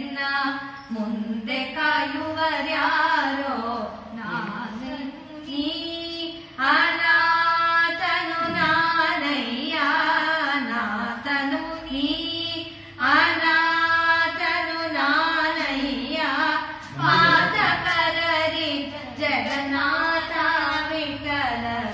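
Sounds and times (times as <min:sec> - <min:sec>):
woman singing devotional song: 0:00.0 - 0:21.9.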